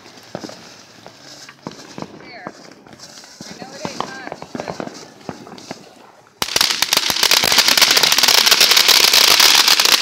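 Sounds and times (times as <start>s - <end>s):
firework crackling: 0.0s - 10.0s.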